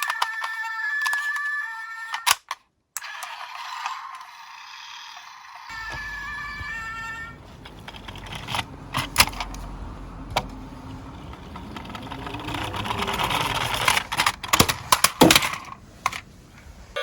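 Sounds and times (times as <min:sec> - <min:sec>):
toy cars rolling rattle: 0:00.0 - 0:09.7, 0:11.0 - 0:16.3.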